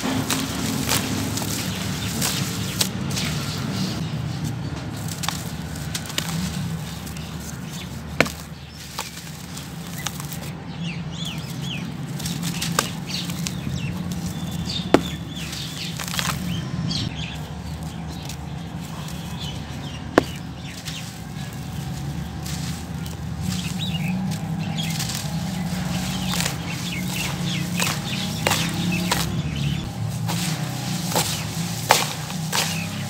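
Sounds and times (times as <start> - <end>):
grit trickling: 0.0 - 33.0
gritty crunching of cement chunks: 0.0 - 33.0.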